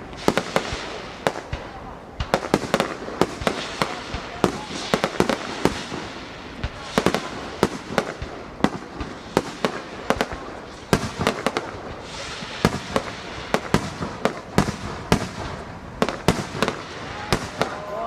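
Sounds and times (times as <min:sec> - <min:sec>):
fireworks bursting with sharp bangs: 0:00.0 - 0:18.0
fireworks crackle: 0:00.0 - 0:18.0.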